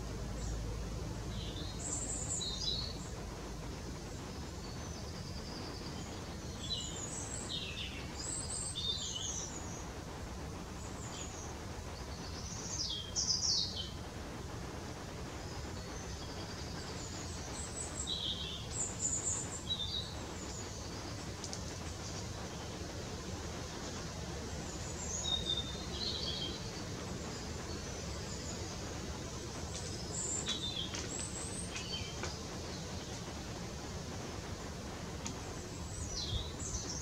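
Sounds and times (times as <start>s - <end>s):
low background noise: 0.0s - 37.0s
songbirds chirping: 0.0s - 37.0s.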